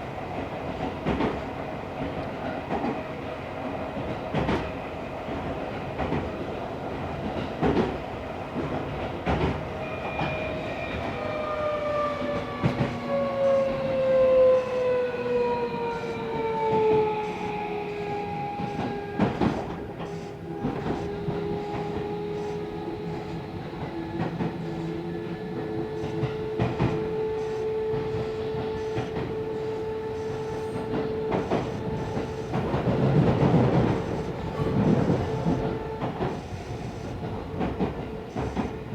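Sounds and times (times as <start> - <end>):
train inverter whine: 0.0 - 38.9.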